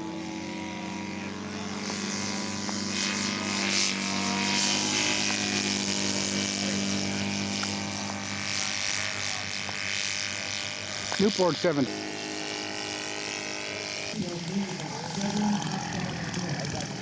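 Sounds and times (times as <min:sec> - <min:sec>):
model airplane engine and propeller: 0:00.0 - 0:17.0.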